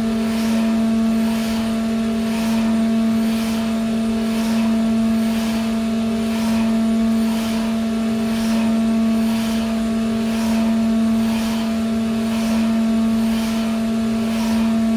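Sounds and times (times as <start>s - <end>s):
electric machine hum: 0.0s - 14.9s.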